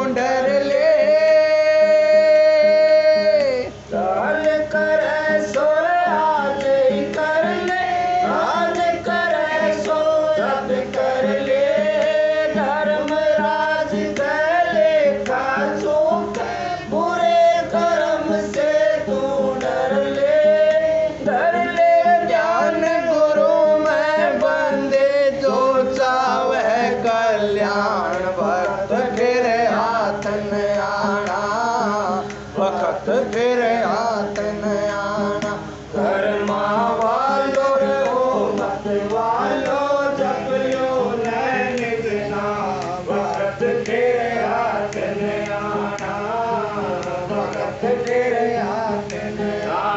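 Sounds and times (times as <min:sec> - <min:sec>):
instruments accompanying: 0:00.0 - 0:49.9
man singing a hymn: 0:00.0 - 0:49.9.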